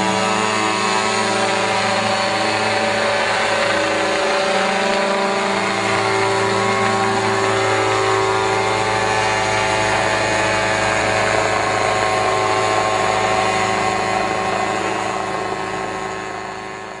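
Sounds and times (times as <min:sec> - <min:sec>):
small helicopter buzzing in flight: 0:00.0 - 0:17.0.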